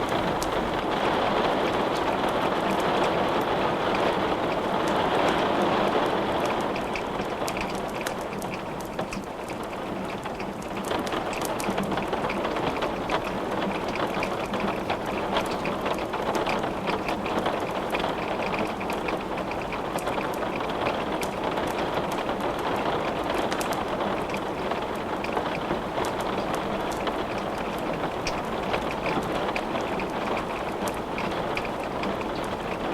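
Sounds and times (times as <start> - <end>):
steady rain falling: 0.0 - 32.9
wood crackling in fireplace: 6.4 - 32.9.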